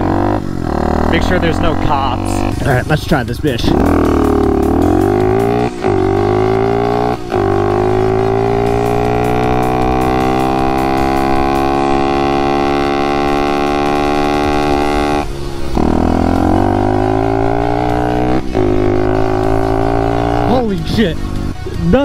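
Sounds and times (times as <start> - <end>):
motorbike engine accelerating: 0.0 - 22.0.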